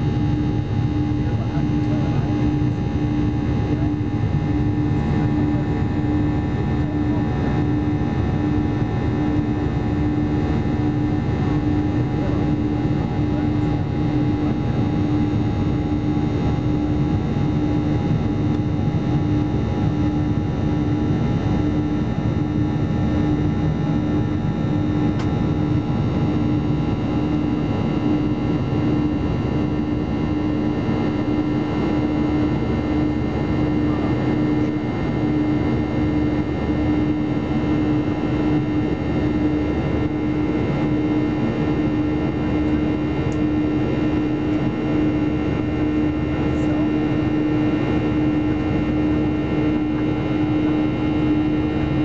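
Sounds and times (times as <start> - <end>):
constant droning hum: 0.0 - 52.0
jet engines roaring in cabin: 0.0 - 52.0.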